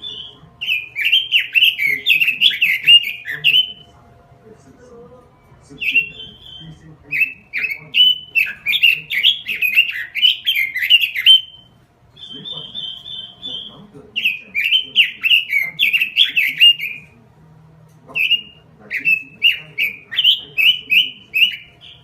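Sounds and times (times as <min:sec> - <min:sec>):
bird singing whistled notes: 0:00.0 - 0:03.9, 0:05.8 - 0:17.2, 0:18.2 - 0:22.0
buzzy bird trill: 0:00.0 - 0:03.9, 0:05.6 - 0:17.2, 0:18.1 - 0:22.0.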